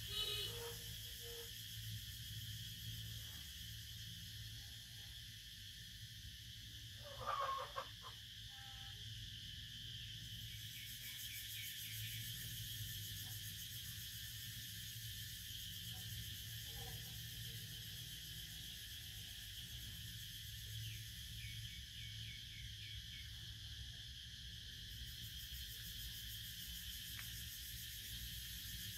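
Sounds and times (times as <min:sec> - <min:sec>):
insects buzzing: 0:00.0 - 0:28.9.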